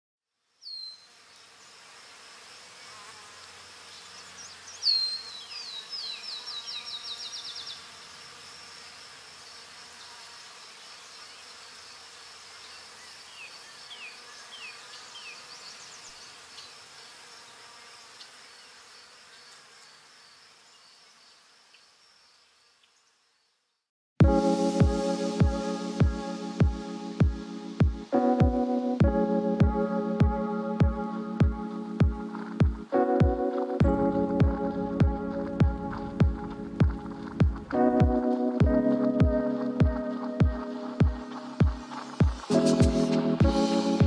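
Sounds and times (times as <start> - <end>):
insect chorus buzzing: 0.5 - 23.6, 24.3 - 44.0.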